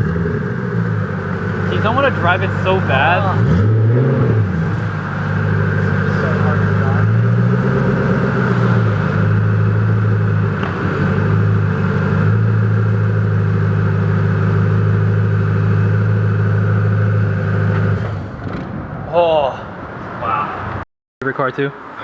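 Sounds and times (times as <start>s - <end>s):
car engine idling: 0.0s - 18.5s.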